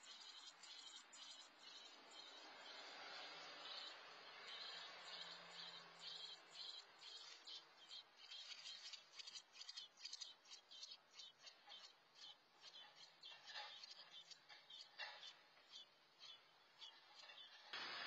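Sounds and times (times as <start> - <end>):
nestlings peeping: 0.0 - 18.0.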